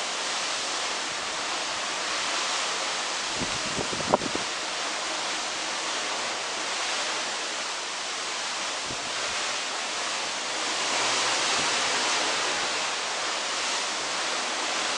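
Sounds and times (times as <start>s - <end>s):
water rushing along ship hull: 0.0s - 14.9s
wind: 0.0s - 14.9s.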